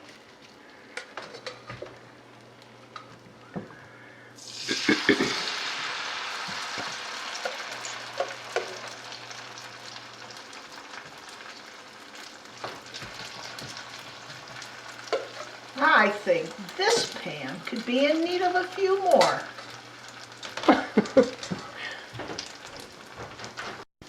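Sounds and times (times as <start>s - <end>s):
food sizzling in hot oil: 0.0s - 23.8s.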